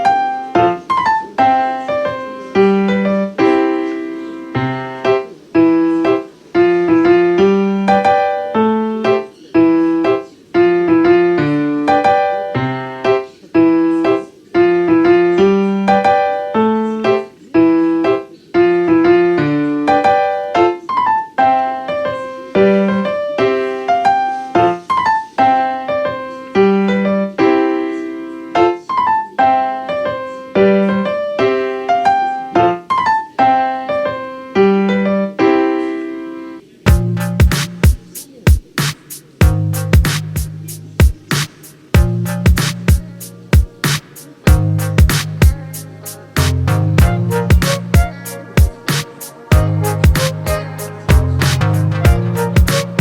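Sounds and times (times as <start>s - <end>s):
solo piano music: 0.0s - 38.7s, 39.3s - 53.0s.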